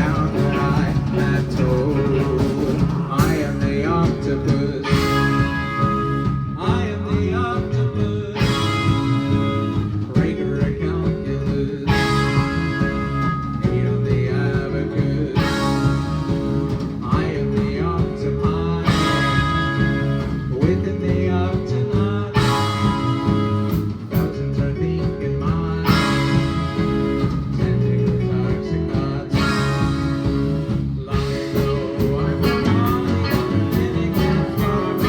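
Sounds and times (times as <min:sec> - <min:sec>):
electric guitar: 0:00.0 - 0:35.0
live rock band playing: 0:00.0 - 0:35.0.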